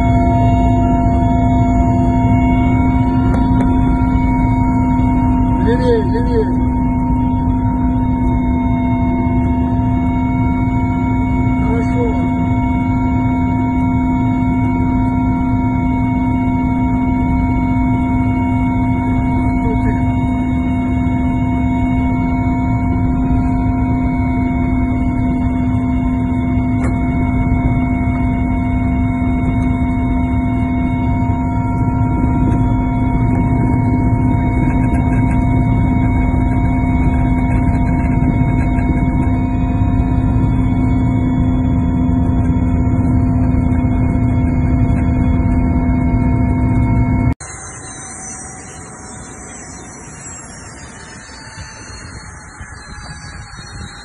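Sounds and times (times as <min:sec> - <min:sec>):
constant whining tones: 0:00.0 - 0:54.0
helicopter engine and rotor drone: 0:00.0 - 0:54.0.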